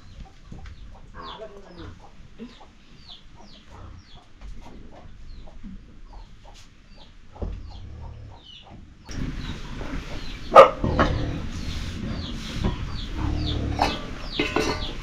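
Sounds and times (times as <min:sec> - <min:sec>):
chickens clucking and peeping: 0:00.0 - 0:15.0.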